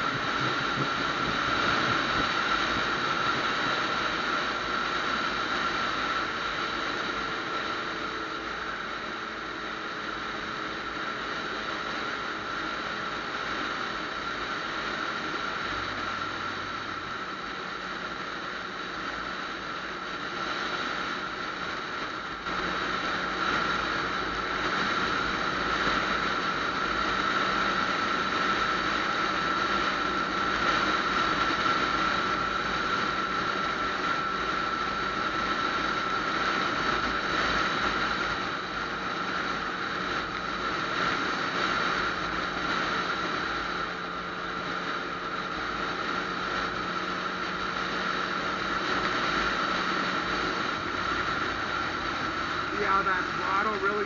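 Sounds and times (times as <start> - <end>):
motorcycle engine running: 0.0 - 54.0
steady high whine: 0.0 - 54.0
wind and road noise: 0.0 - 54.0.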